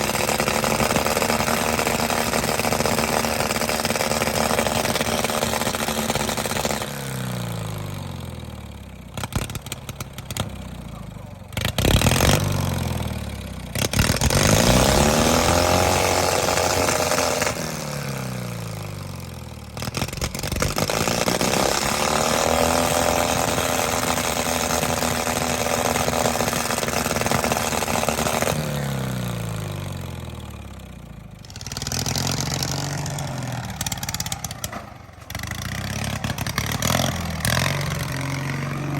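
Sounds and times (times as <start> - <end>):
lawnmower engine revving: 0.0 - 38.9.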